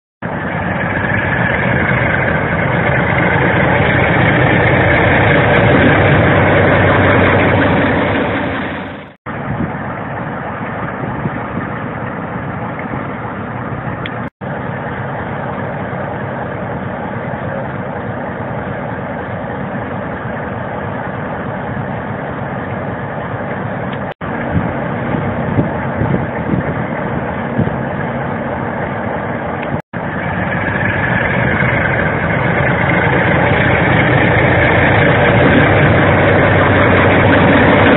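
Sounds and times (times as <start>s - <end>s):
diesel locomotive engines running: 0.2s - 37.9s.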